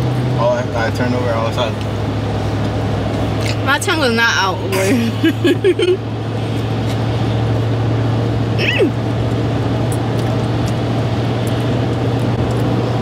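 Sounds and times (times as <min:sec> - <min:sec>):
car cabin engine hum: 0:00.0 - 0:13.0.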